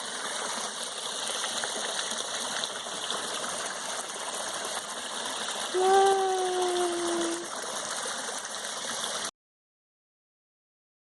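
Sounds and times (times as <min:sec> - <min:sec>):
running water rushing: 0:00.0 - 0:09.3.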